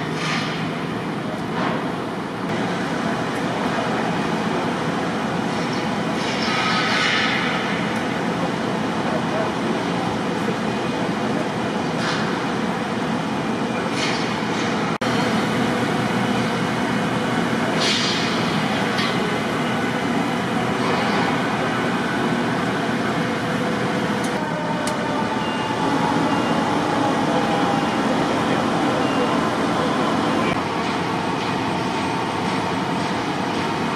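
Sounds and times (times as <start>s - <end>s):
heavy vehicles idling: 0.0s - 6.3s, 7.2s - 33.9s
street traffic rumble: 0.0s - 33.9s.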